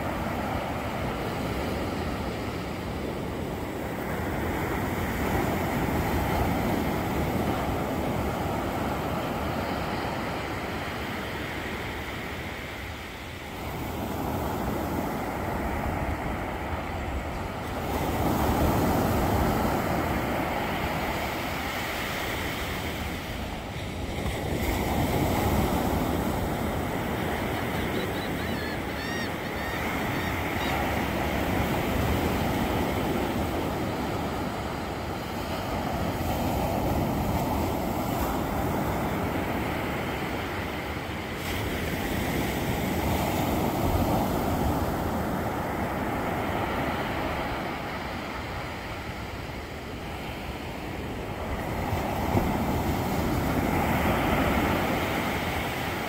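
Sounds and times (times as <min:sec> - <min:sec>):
ocean waves breaking on a beach: 0:00.0 - 0:56.0.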